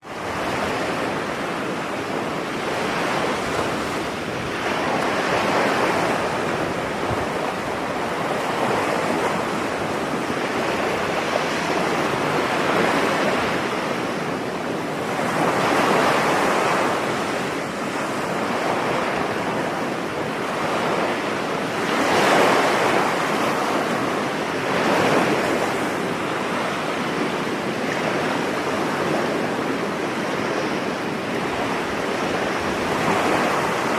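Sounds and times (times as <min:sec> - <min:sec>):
ocean waves breaking on beach: 0:00.0 - 0:33.9.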